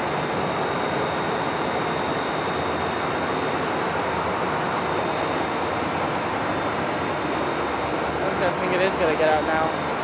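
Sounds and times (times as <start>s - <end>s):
thin high whine: 0.0s - 10.0s.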